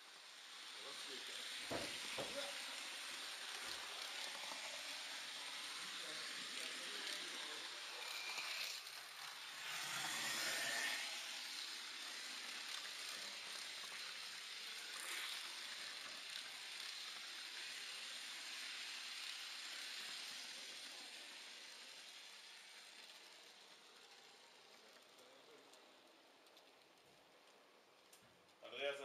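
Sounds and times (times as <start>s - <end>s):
model train wheels on rails: 0.0s - 29.0s.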